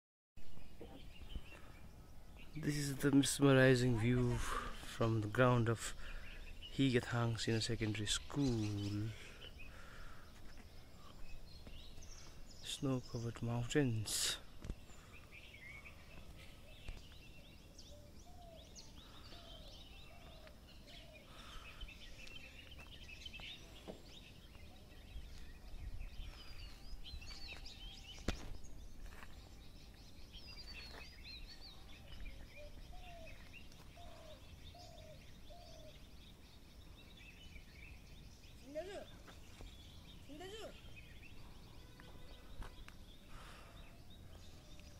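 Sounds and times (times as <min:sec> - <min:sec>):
birds singing and chirping: 0:00.4 - 0:44.9.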